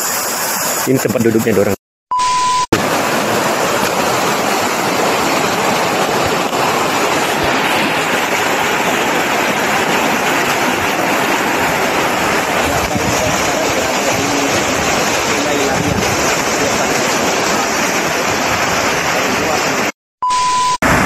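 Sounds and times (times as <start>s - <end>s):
river water rushing: 2.8s - 19.9s.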